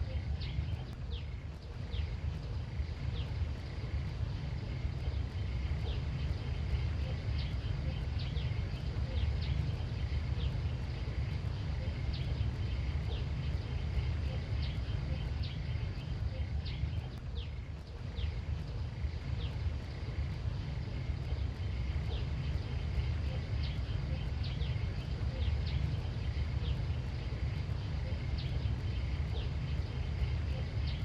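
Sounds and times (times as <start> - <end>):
faint high drone: 0.0 - 31.0
steady low rumble: 0.0 - 31.0.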